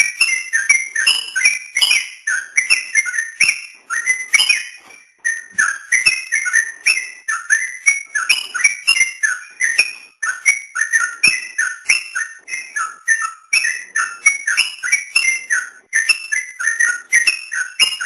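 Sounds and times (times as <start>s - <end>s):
bird chattering whistled notes: 0.0s - 18.0s.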